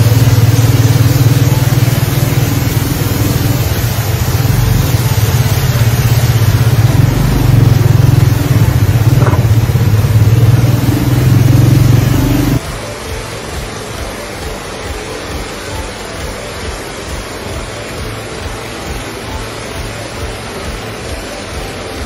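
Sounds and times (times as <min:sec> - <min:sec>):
vehicle engine running: 0:00.0 - 0:22.0
water rushing hiss: 0:00.0 - 0:22.0.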